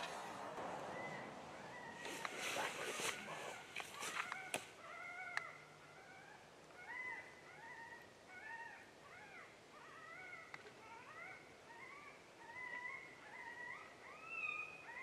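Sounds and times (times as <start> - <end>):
high whining yelps from caller: 0.9 - 15.0.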